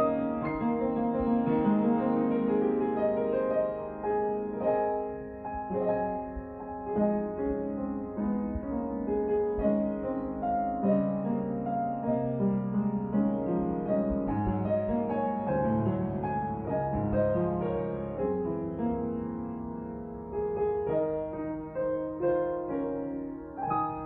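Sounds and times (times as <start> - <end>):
upright piano playing: 0.0 - 24.0.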